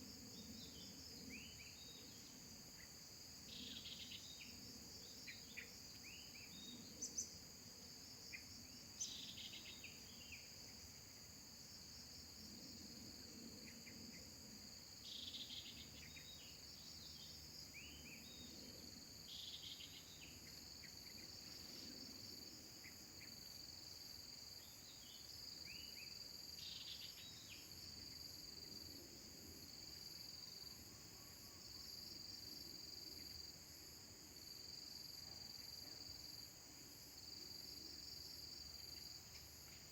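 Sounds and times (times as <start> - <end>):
crickets or cicadas droning: 0.0 - 39.9.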